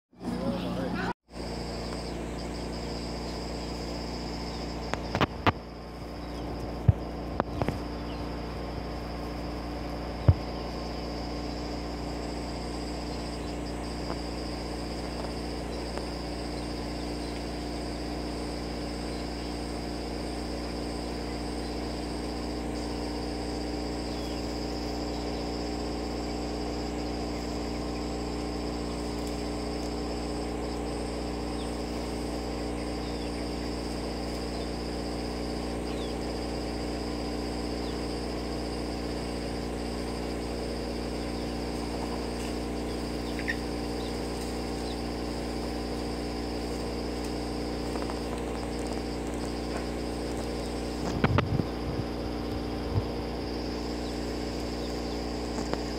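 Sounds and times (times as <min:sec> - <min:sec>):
low mechanical hum: 0:00.2 - 0:55.9
high-pitched insect trill: 0:00.6 - 0:55.9.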